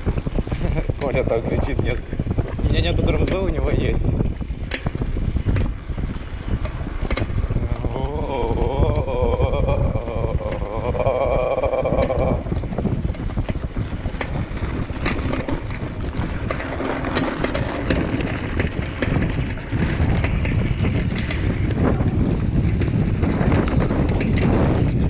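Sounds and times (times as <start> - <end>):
bike rattling over dirt track: 0.0 - 25.0
wind buffeting microphone: 0.0 - 25.0.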